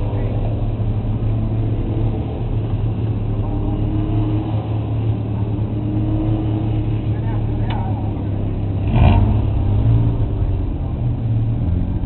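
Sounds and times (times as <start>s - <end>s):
sports car engine running: 0.0s - 12.0s.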